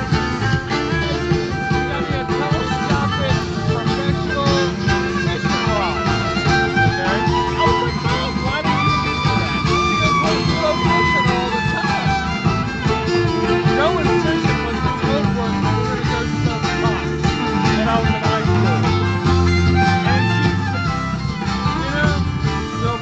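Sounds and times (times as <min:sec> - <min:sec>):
bluegrass string band playing: 0:00.0 - 0:23.0.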